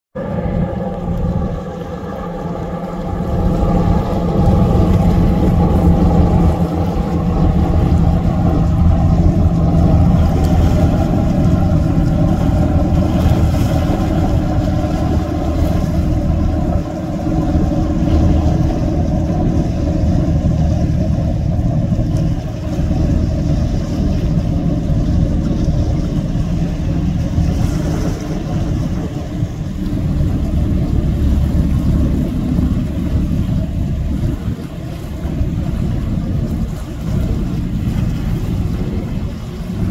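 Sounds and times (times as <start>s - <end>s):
ship engine drone: 0.1s - 39.9s.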